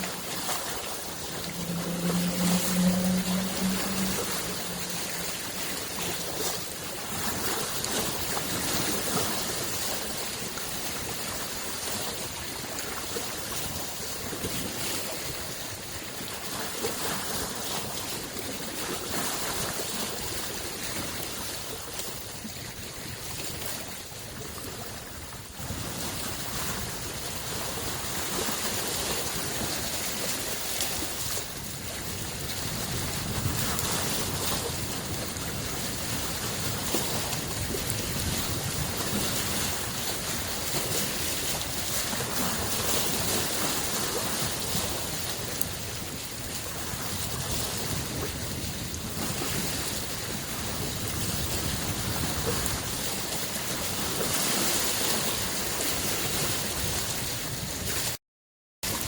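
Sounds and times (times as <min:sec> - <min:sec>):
lake waves lapping on shore: 0:00.0 - 0:58.2.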